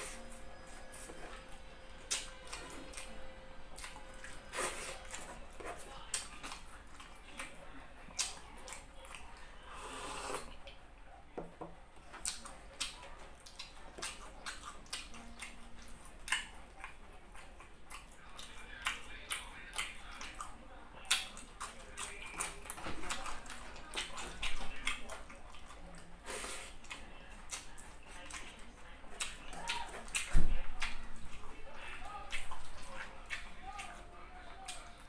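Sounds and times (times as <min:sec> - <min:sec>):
wet chewing and lip smacking: 0:00.0 - 0:09.5, 0:12.0 - 0:35.0.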